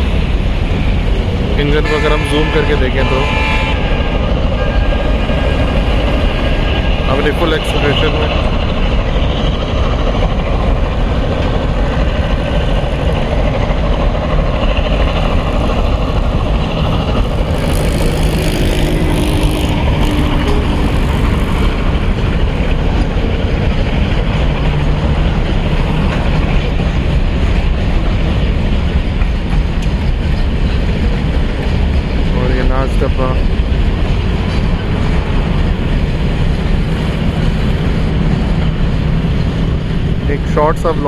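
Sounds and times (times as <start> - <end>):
steel wheels rumbling on rails: 0.0 - 41.0.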